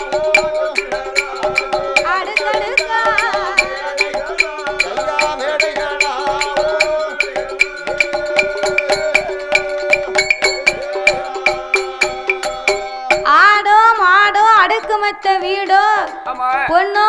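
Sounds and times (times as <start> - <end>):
metallic jingle: 0.0 - 15.4
held melody notes: 0.0 - 17.0
quick percussion beat: 0.0 - 17.0.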